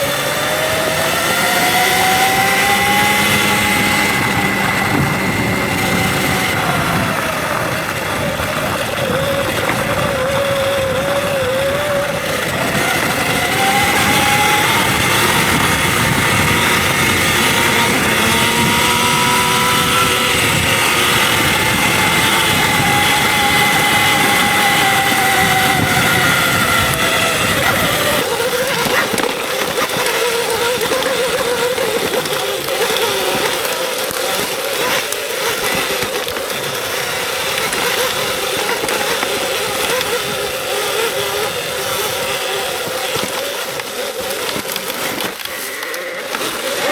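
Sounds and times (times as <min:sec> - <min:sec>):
electric motor whining: 0:00.0 - 0:46.9
tyre noise: 0:00.0 - 0:46.9.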